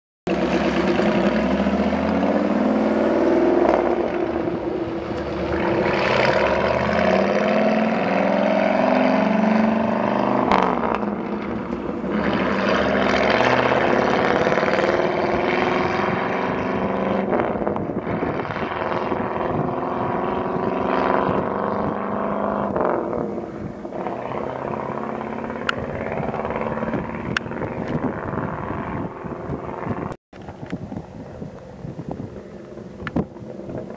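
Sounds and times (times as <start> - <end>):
truck engine accelerating past: 0.3 - 30.2.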